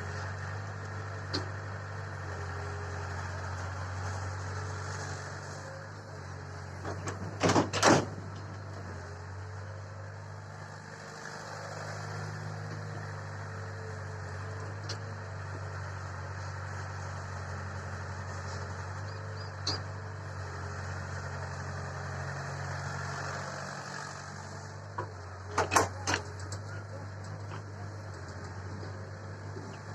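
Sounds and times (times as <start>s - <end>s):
heavy diesel machinery running: 0.0s - 29.9s.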